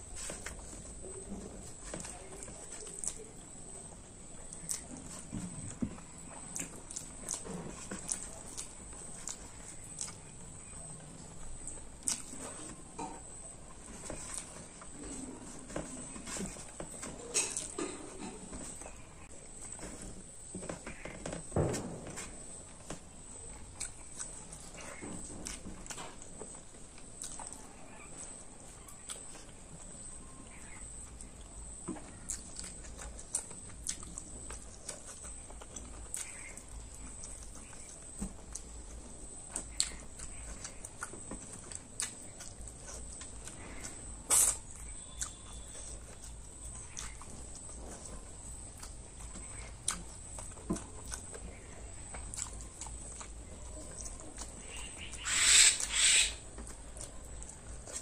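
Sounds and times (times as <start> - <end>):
person chewing: 0.0 - 21.6, 22.2 - 58.0.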